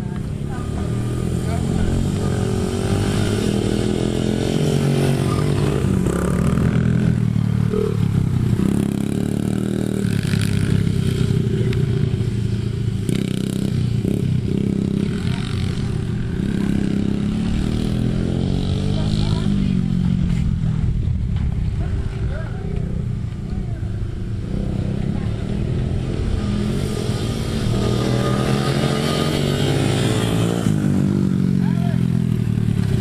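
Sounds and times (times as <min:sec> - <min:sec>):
dirt bike engine revving: 0:00.5 - 0:20.1, 0:24.4 - 0:33.0.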